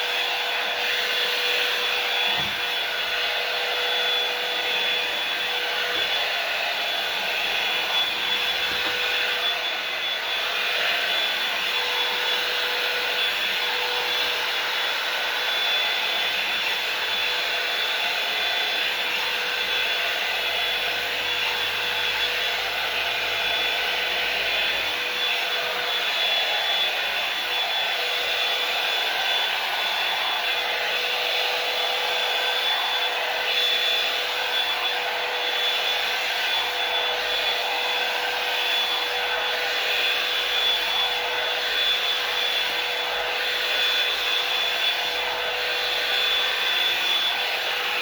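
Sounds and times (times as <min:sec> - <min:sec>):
hair dryer blowing: 0:00.0 - 0:48.0.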